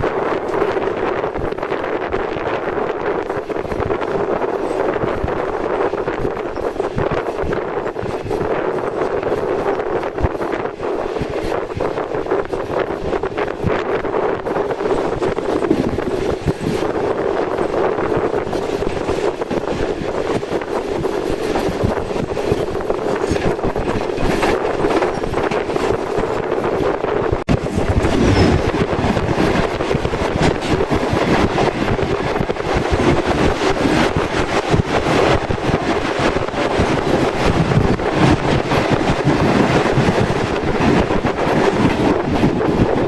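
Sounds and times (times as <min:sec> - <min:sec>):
passenger train rumbling: 0:00.0 - 0:43.0
wind on microphone: 0:00.0 - 0:43.0.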